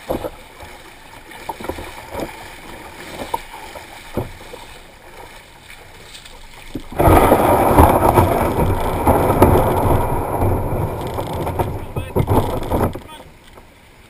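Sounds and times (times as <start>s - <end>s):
boat hull scraping on pebbles: 0.0s - 13.7s
small waves washing: 0.0s - 14.0s.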